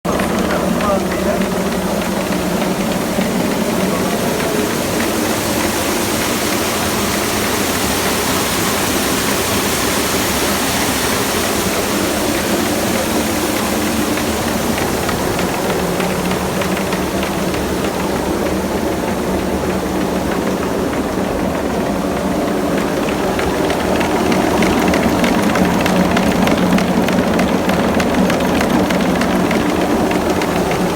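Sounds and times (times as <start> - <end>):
milling machinery humming: 0.0 - 30.9.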